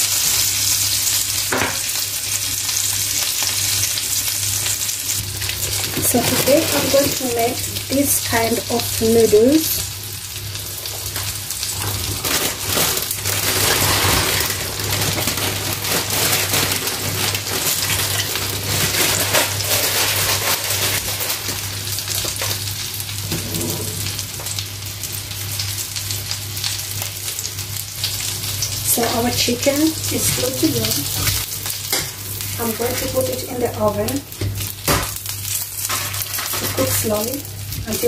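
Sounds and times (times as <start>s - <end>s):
chicken sizzling in hot oil: 0.0s - 38.0s.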